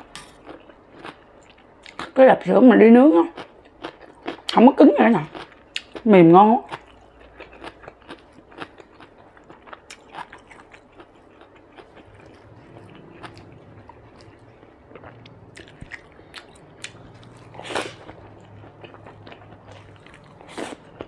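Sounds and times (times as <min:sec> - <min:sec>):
person chewing soft food: 0:00.0 - 0:02.1, 0:03.4 - 0:04.6, 0:05.3 - 0:06.0, 0:06.7 - 0:21.0.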